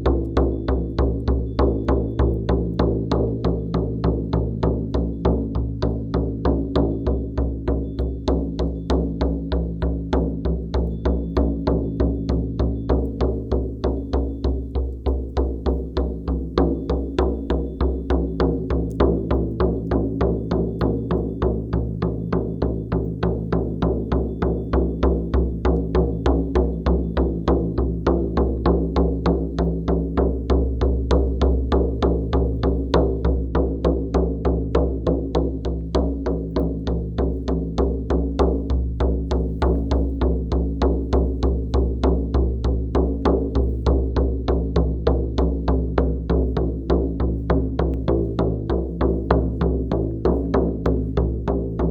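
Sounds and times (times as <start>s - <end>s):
frame drum beating: 0.0s - 51.9s.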